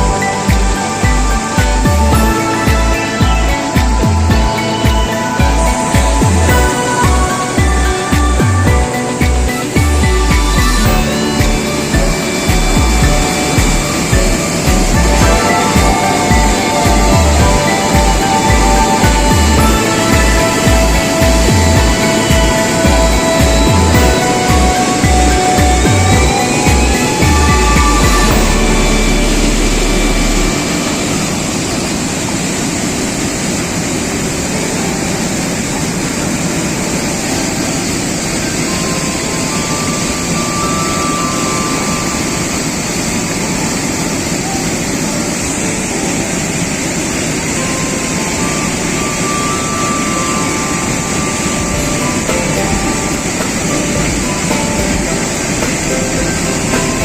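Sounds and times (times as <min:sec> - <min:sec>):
music: 0:00.0 - 0:57.0
waterfall roaring: 0:00.0 - 0:57.0.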